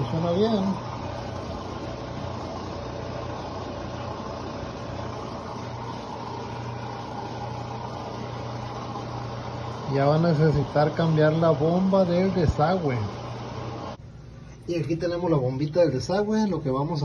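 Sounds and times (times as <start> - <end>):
washing machine pump humming: 0.0 - 17.0.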